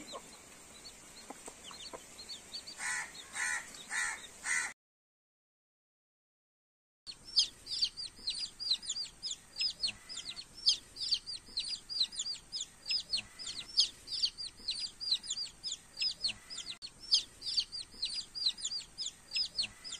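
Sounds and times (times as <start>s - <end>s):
chicks peeping: 0.0s - 4.7s, 7.1s - 19.9s.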